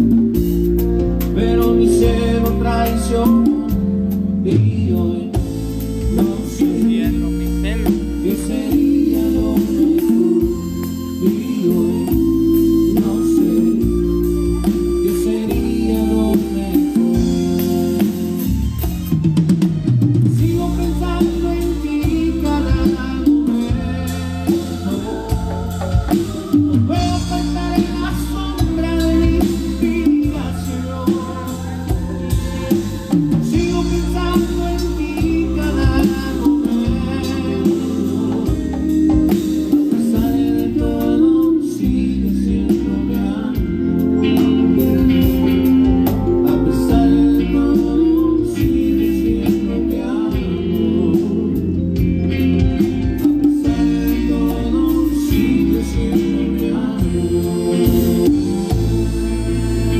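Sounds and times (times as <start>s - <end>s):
drum kit: 0.0s - 59.9s
electric guitar: 0.0s - 59.9s
hand percussion: 0.0s - 59.9s
person singing: 1.2s - 18.4s, 20.1s - 59.9s.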